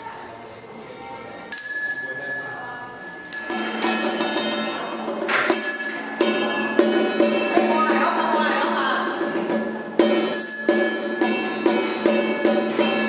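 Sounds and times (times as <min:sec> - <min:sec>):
metal bell ringing: 0:01.5 - 0:13.0.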